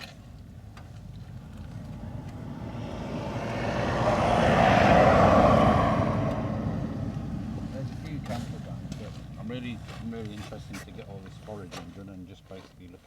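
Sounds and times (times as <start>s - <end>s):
vehicle driving past: 0.5s - 11.2s.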